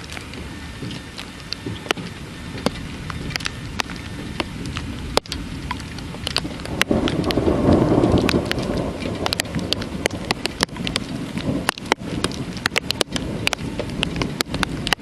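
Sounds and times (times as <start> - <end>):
low thunder rumble: 0.0 - 15.0
raindrops ticking: 0.0 - 15.0
steady rain hiss: 0.0 - 15.0.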